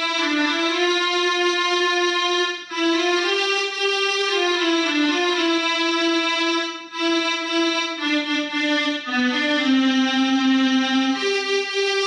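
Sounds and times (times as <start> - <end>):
electronic keyboard melody: 0.0 - 12.0.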